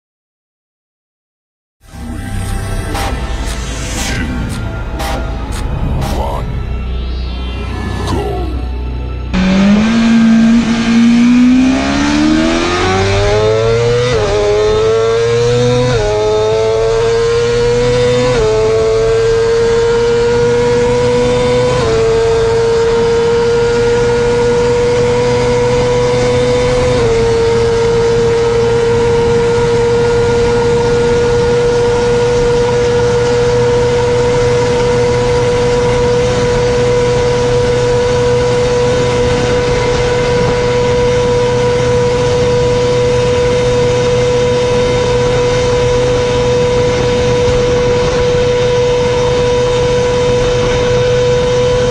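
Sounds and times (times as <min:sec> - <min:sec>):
motorcycle engine at full throttle: 0:01.8 - 0:51.9.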